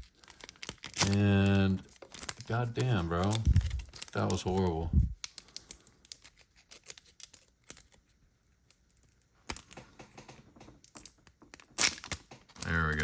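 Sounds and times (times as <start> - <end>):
trading cards clicking and rustling: 0.0 - 13.0.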